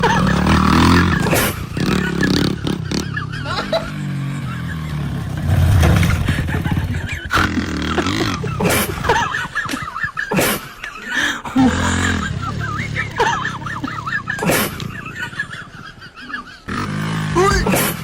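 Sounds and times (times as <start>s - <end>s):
motorcycle engine revving: 0.0s - 10.4s, 11.6s - 18.0s.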